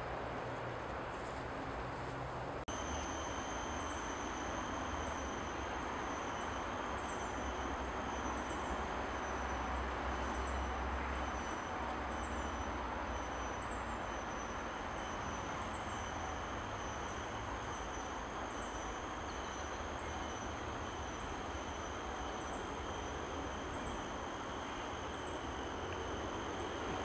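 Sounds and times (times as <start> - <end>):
outdoor background rush: 0.0 - 27.0
faint high chirps: 2.7 - 26.9.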